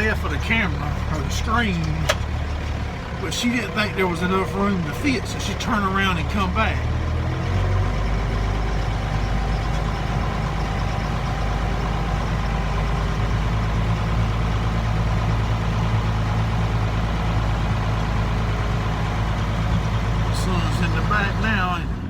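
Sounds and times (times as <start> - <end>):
diesel tractor engine droning: 0.0 - 22.0.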